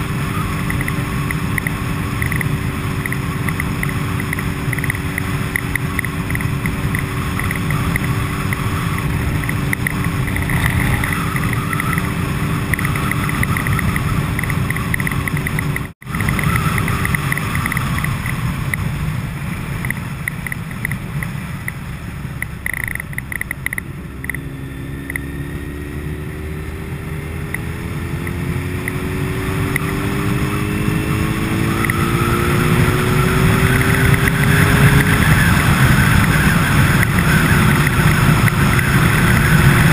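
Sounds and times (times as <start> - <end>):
vehicle engine rumble: 0.0 - 39.9
whine rising in pitch: 3.0 - 18.4, 22.5 - 39.9.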